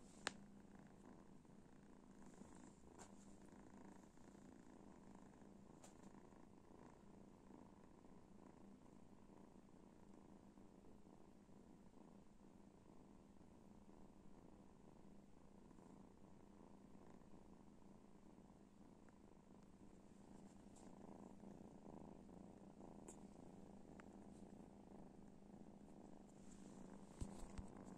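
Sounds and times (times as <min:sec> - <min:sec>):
cat purring: 0:00.0 - 0:27.9.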